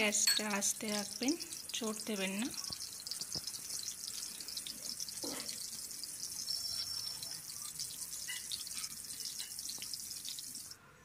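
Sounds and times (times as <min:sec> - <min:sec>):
oil popping: 0:00.0 - 0:10.7
food sizzling in oil: 0:00.0 - 0:10.8.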